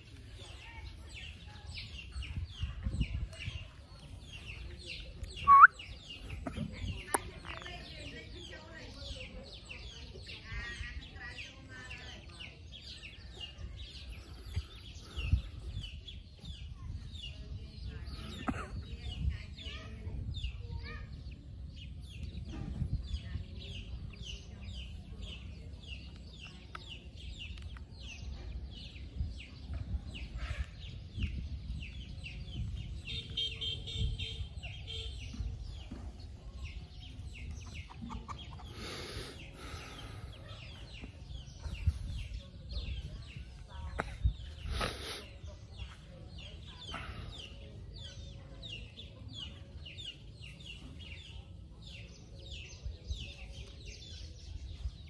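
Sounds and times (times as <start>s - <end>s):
chickens clucking and cheeping: 0.0s - 55.0s.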